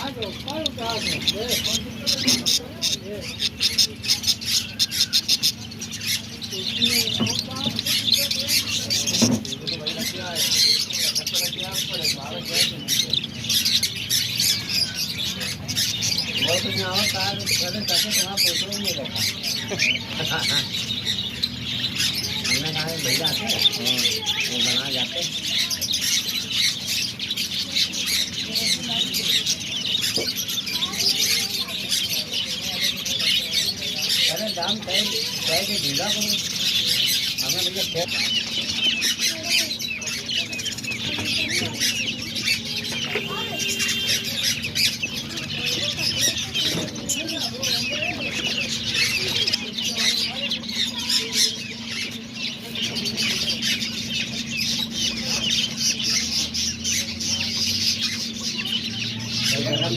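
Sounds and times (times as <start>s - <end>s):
birds chirping and squawking: 0.0s - 59.9s.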